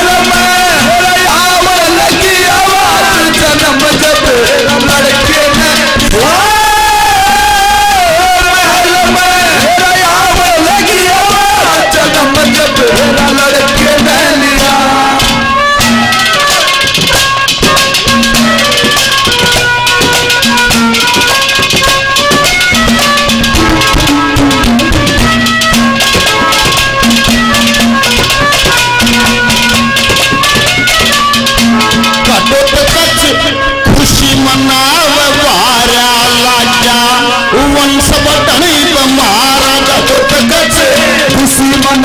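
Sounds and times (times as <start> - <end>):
fast drum and percussion strokes: 0.0 - 42.0
folk melody of held notes: 0.0 - 42.0.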